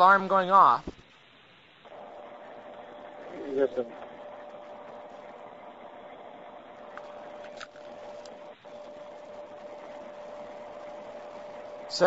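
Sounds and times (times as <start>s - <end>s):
telephone line hiss: 0.0s - 12.0s.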